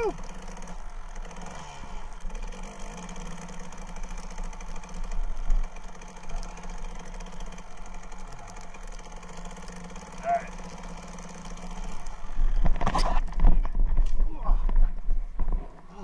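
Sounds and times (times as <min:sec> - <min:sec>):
muffled dirt bike engine revving: 0:00.0 - 0:16.0.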